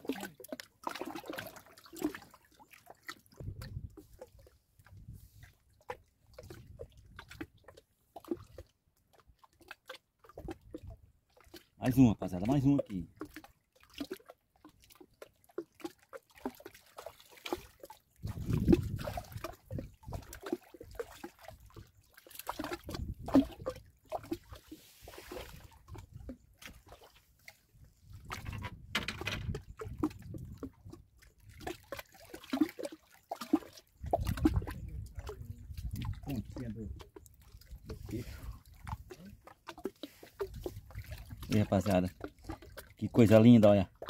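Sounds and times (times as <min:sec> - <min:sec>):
water sloshing against boat: 0:00.0 - 0:44.0.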